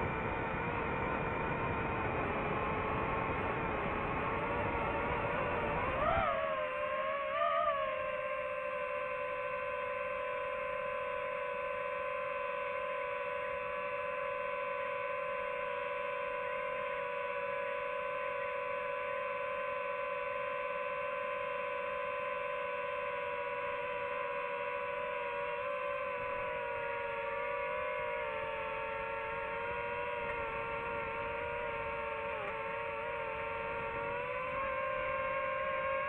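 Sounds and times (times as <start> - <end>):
drone propellers whining: 0.0 - 36.0.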